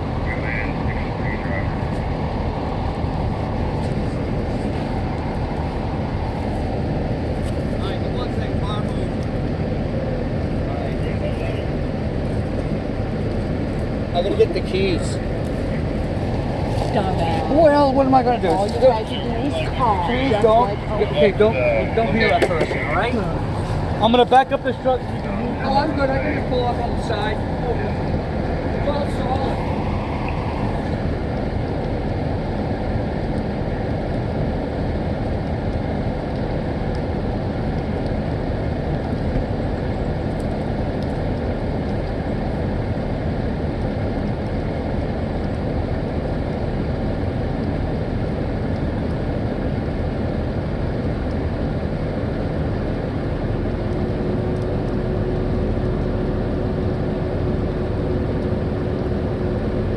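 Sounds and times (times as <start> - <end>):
low hum: 0.0 - 59.9
truck engine running: 0.0 - 59.9.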